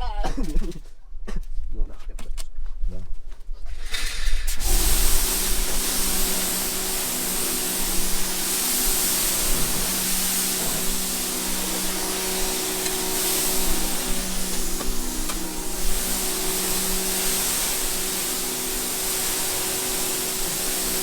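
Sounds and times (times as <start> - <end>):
cleaning machine hiss: 3.7 - 21.0
motor hum: 4.0 - 21.0.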